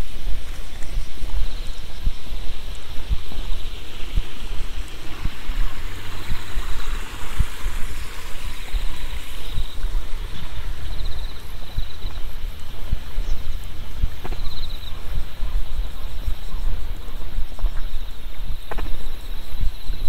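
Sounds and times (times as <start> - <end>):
insects trilling: 0.0 - 20.0
steady rushing hiss: 0.0 - 20.0.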